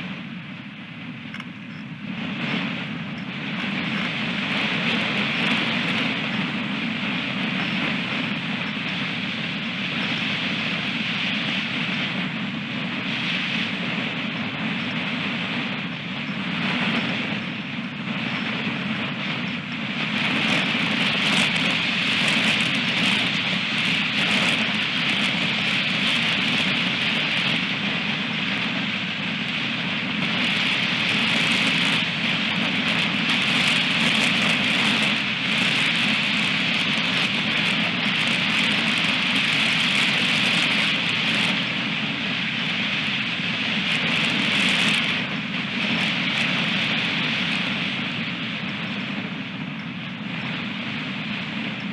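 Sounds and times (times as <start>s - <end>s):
strong wind buffeting microphone: 0.0s - 51.9s.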